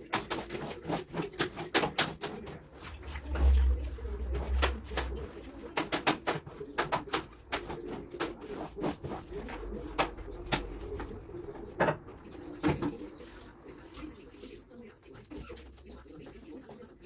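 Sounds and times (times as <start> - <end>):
brush scrubbing tiled floor: 0.0 - 11.6, 12.9 - 17.0.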